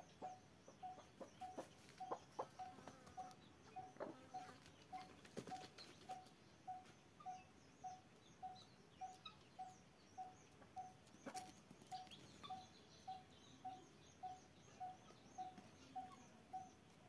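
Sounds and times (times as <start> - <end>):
high bird chirps: 0.0 - 16.8.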